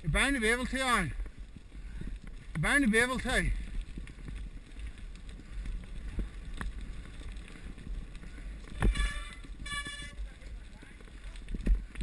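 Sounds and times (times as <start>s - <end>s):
bike rattling over rocks: 0.0s - 12.0s
wind buffeting microphone: 0.8s - 12.0s.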